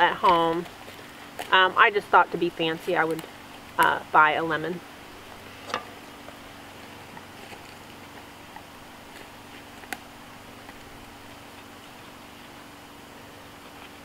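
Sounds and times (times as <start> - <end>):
faint hum: 0.0 - 14.0
steady low hiss: 0.0 - 14.0.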